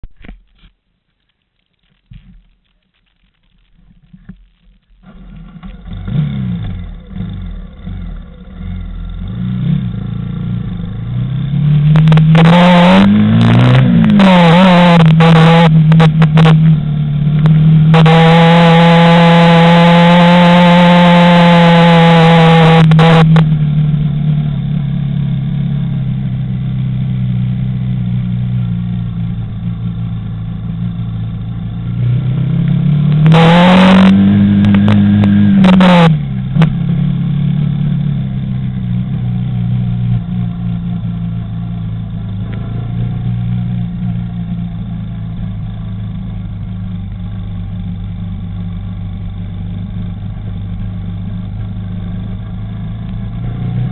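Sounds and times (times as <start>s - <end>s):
quad bike engine revving: 5.0s - 53.9s.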